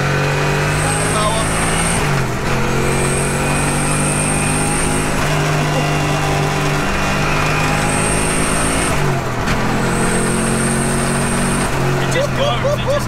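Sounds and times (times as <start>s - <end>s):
car engine running at steady revs: 0.0s - 13.0s.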